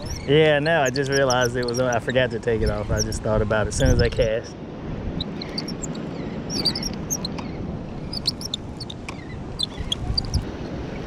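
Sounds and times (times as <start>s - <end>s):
birds chirping: 0.0s - 4.4s, 5.2s - 11.0s.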